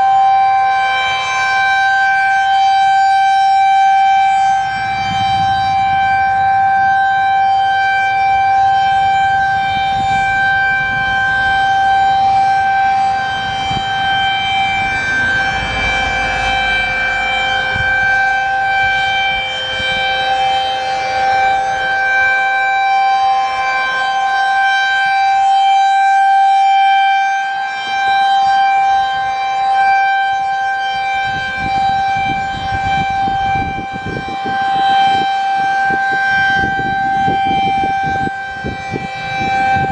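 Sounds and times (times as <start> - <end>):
electronic warning siren: 0.0 - 39.9.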